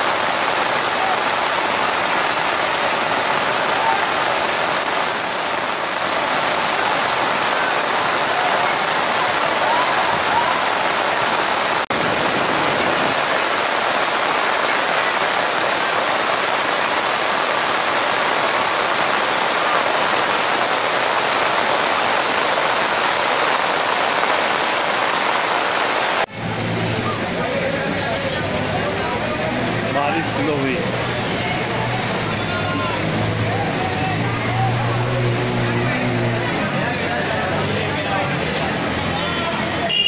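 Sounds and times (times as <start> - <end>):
heavy rain pouring: 0.0 - 40.0.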